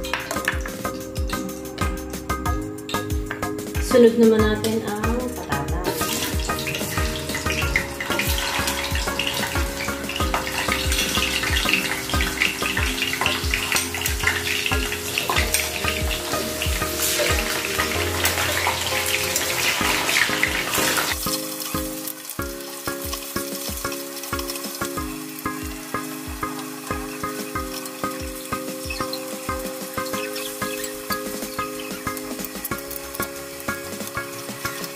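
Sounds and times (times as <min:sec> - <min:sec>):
background music with steady beat: 0:00.0 - 0:34.9
potatoes sizzling in hot oil: 0:04.6 - 0:34.9.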